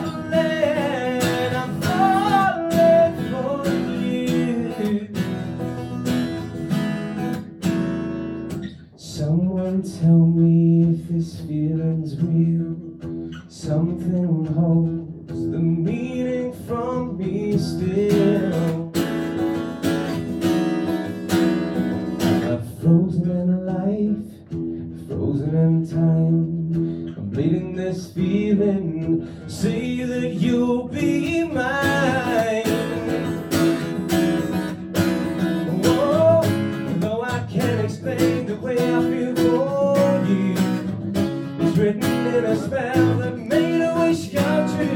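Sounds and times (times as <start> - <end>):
man singing slow song: 0.0 - 5.7, 9.0 - 19.1, 22.3 - 33.9, 35.7 - 44.9
acoustic guitar: 0.0 - 44.9.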